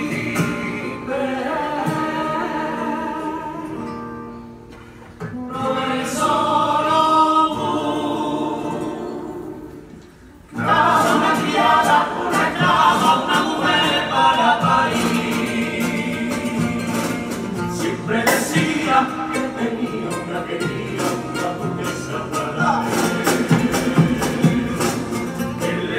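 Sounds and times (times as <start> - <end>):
male choir singing in harmony: 0.0 - 3.7, 5.5 - 25.9
guitar accompaniment: 0.0 - 25.9.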